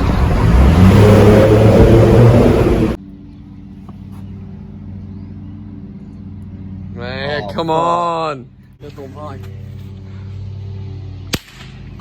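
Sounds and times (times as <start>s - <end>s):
low engine hum: 0.0s - 12.0s
wind and road rumble: 0.0s - 12.0s.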